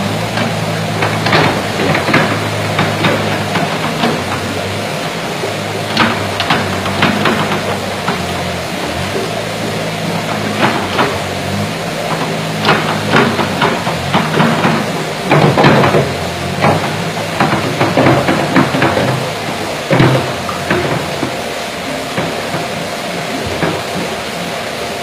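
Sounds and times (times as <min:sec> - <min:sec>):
loader engine drone: 0:00.0 - 0:25.0
metal clanks and knocks: 0:00.0 - 0:25.0.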